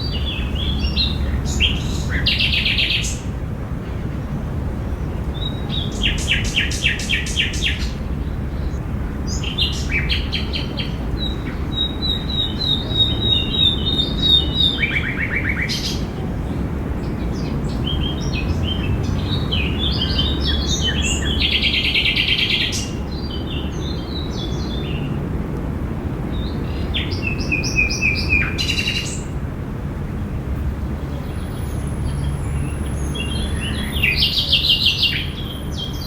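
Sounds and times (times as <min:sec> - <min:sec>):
songbirds chirping: 0:00.0 - 0:29.5, 0:30.5 - 0:36.0.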